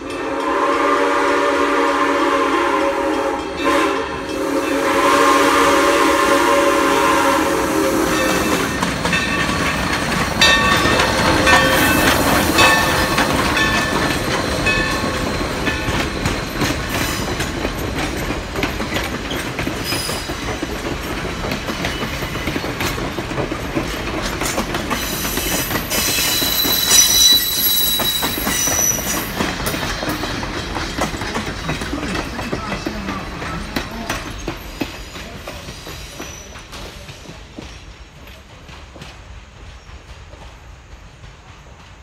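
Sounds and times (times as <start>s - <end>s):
wheels squealing on rails: 0.0s - 38.6s
train wheels clattering over rail joints: 8.0s - 42.0s.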